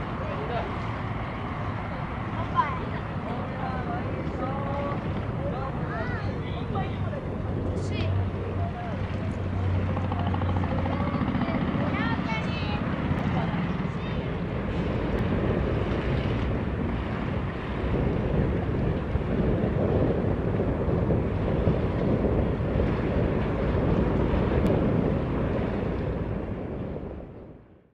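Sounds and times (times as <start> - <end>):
choppy water washing: 0.0 - 27.6
wind buffeting microphone: 0.0 - 27.9.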